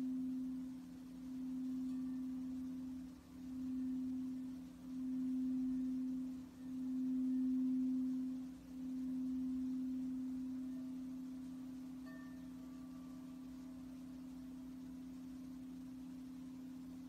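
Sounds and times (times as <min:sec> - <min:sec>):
singing bowl tone: 0:00.0 - 0:17.0.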